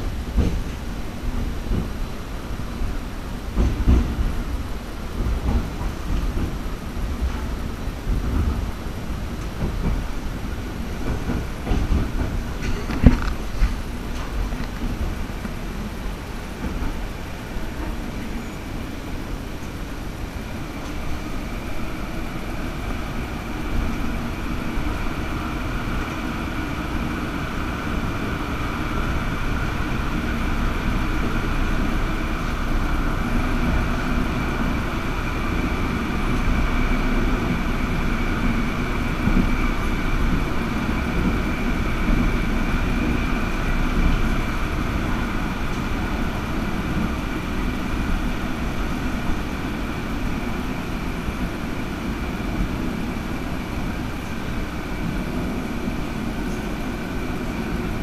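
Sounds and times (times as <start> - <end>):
steady high whine: 0.0 - 58.0
tram wheels rumbling on rail: 0.0 - 58.0.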